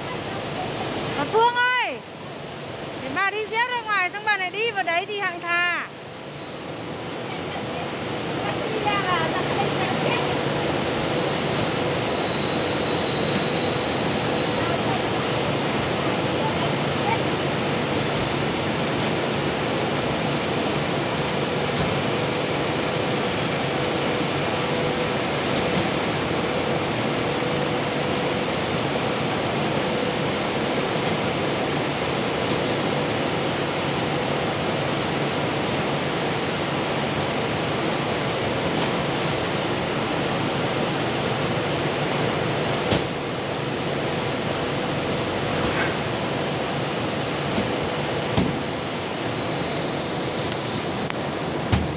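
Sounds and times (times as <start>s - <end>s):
steady mechanical noise: 0.0s - 51.9s.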